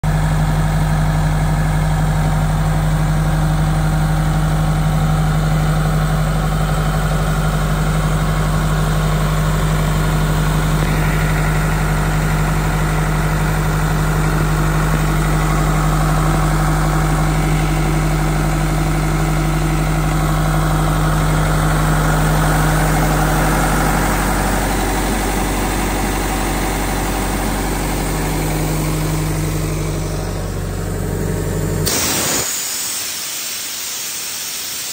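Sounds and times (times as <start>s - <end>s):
compressor engine idling: 0.0s - 34.9s.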